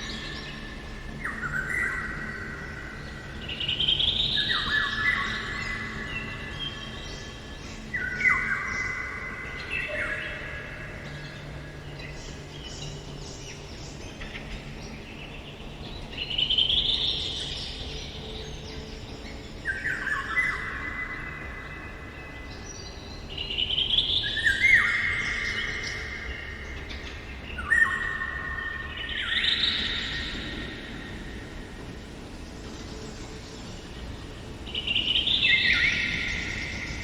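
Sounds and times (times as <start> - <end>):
soft calls of other birds: 0.0 - 37.0.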